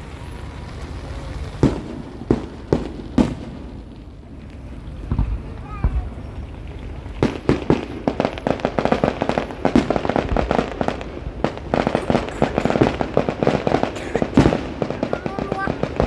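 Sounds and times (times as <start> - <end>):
fireworks bangs and crackling pops: 0.0 - 16.0.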